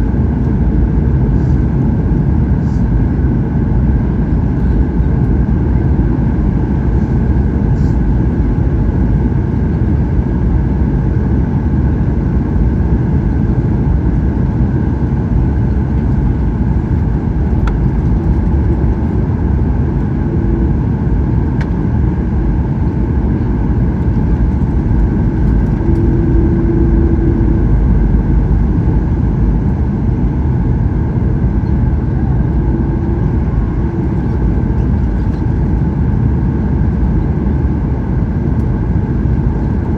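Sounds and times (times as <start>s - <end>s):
airplane cabin jet engine roar: 0.0s - 39.9s.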